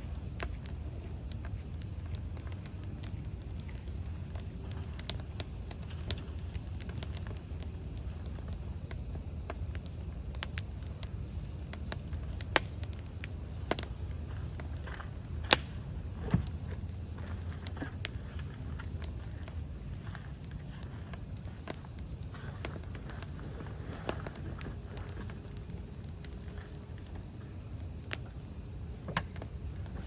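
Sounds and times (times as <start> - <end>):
campfire logs crackling: 0.0 - 30.0
crickets chirping: 0.0 - 30.0.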